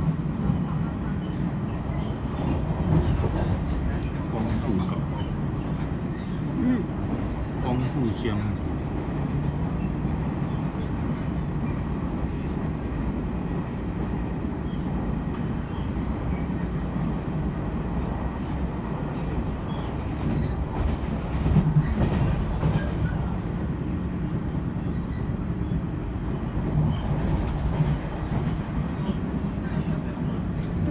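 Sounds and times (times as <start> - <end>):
train carriages rumbling past: 0.0 - 30.9.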